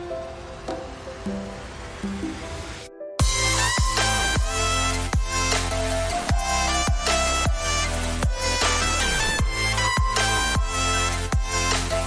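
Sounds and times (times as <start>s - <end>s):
electronic music with deep bass: 1.2s - 12.0s.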